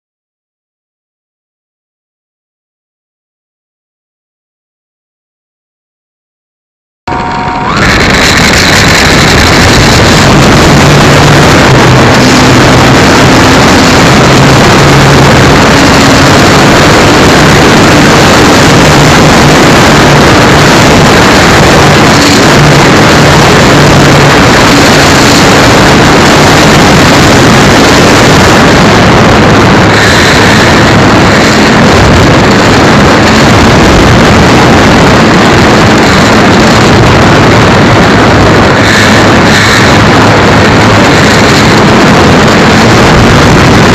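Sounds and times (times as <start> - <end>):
model airplane motor and propeller: 7.1 - 43.9
wind rush: 7.1 - 43.9.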